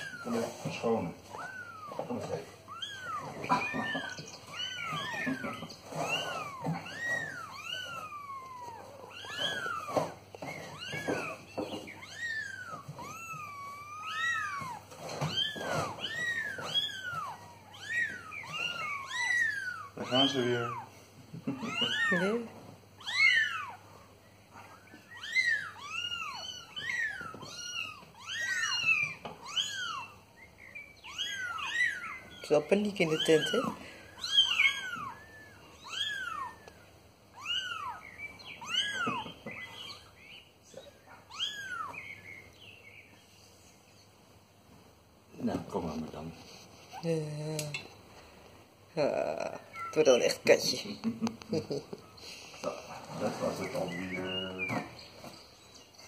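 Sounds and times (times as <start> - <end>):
kittens mewing: 0.0 - 42.4, 48.9 - 55.6.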